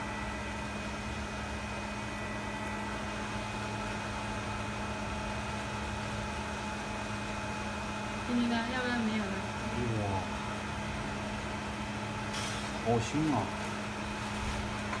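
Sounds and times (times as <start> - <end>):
hot-air blowers and fans whirring: 0.0 - 15.0.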